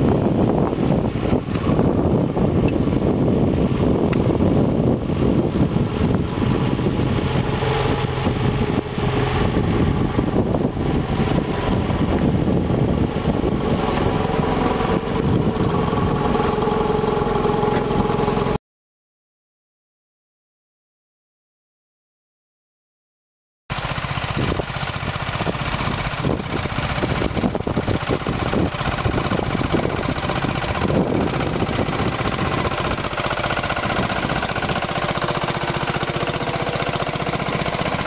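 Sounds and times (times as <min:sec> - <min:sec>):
tractor engine running: 0:00.0 - 0:18.6, 0:23.7 - 0:38.0.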